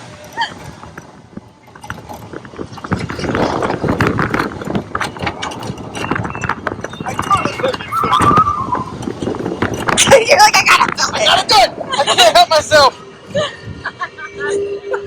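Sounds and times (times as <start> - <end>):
roller coaster clattering: 0.0 - 15.0.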